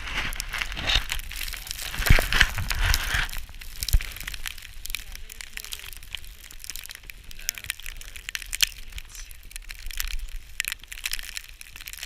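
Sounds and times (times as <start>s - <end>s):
crunching and crackling: 0.0s - 12.0s.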